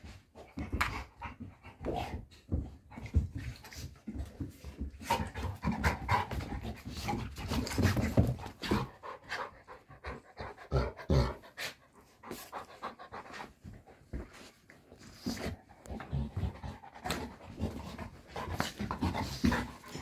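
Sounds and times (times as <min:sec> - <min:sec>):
dog panting: 0:00.1 - 0:20.0.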